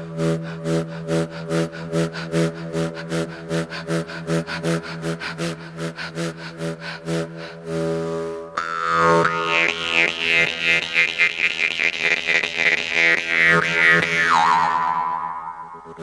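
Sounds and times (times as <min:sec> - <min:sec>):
droning instrument: 0:00.0 - 0:16.0.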